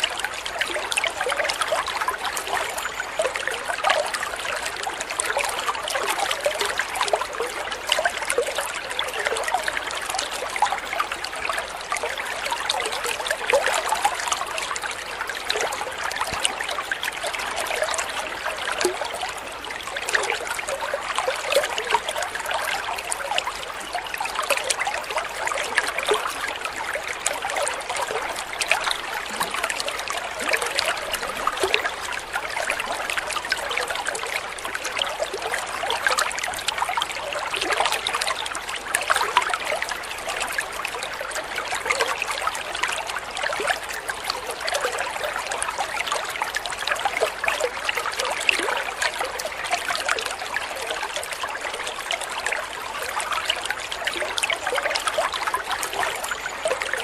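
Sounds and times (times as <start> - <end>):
water trickling into pond: 0.0 - 57.0.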